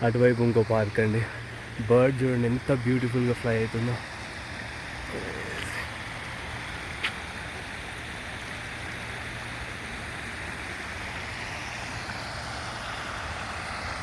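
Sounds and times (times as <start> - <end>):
creek water over rocks: 0.0 - 14.0.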